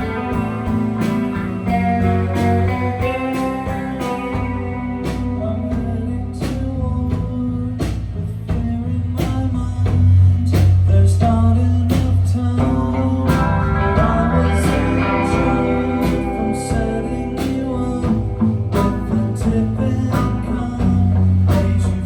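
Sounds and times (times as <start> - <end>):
guitar: 0.0 - 22.0
live band music: 0.0 - 22.0.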